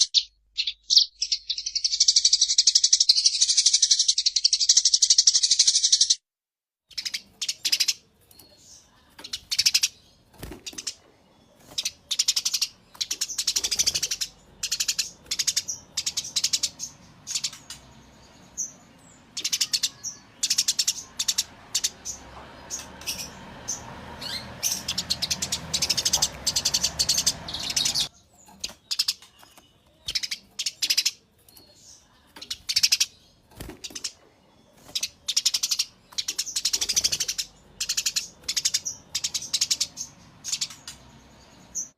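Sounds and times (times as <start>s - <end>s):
sparrow chirping: 0.0s - 6.2s, 6.9s - 41.9s.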